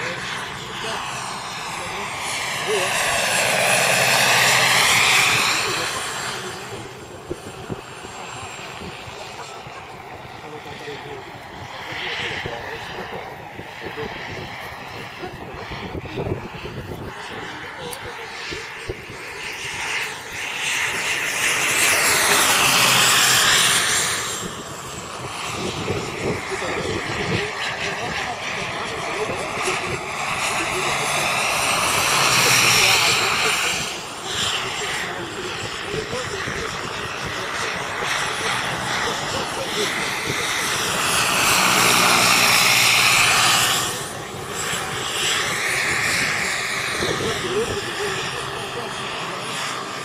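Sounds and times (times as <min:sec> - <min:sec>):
high turbine whine: 0:00.0 - 0:50.0
model helicopter flying past: 0:00.0 - 0:50.0.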